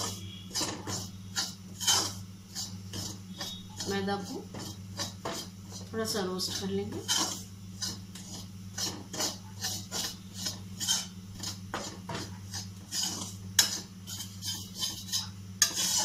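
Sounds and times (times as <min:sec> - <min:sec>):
spoon scraping a steel pan: 0:00.0 - 0:16.0.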